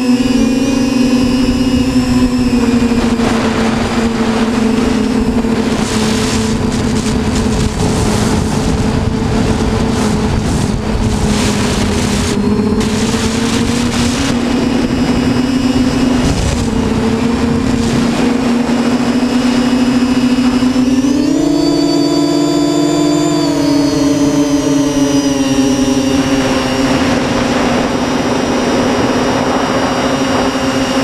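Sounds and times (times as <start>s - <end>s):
quadcopter droning hum: 0.0s - 31.0s.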